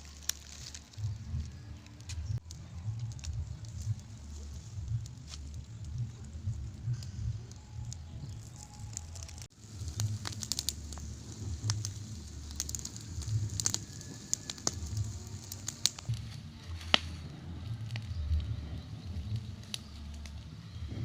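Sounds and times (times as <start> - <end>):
low rumble: 0.0 - 21.0
wood fire crackling: 0.0 - 21.0.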